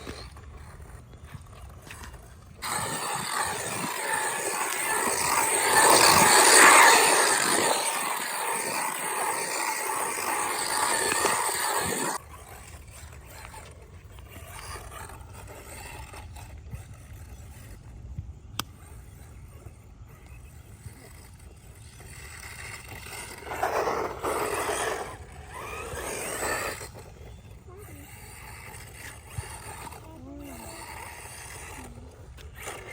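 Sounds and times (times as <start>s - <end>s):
rc truck tyre and motor noise: 0.0s - 32.9s.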